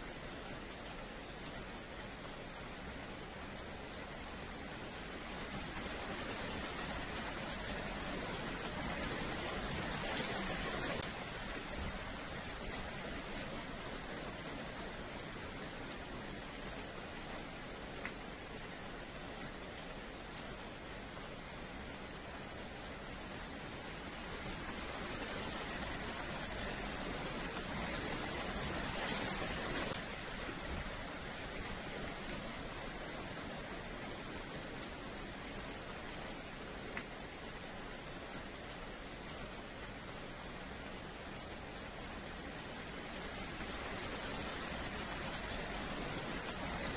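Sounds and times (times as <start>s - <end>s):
rain on wet paving: 0.0s - 46.9s.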